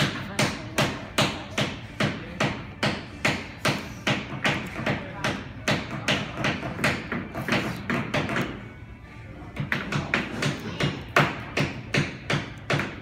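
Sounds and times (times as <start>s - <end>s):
hammers tapping nails into wood: 0.0s - 8.6s, 9.6s - 13.0s.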